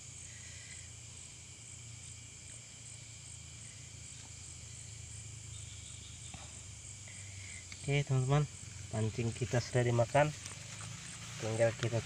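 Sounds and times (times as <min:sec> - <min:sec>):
crickets chirping: 0:00.0 - 0:12.0
faint low hum: 0:00.0 - 0:12.0.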